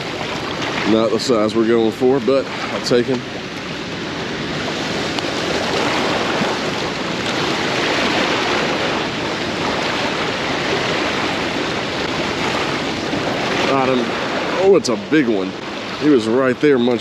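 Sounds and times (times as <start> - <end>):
turbulent whitewater rushing: 0.0 - 17.0.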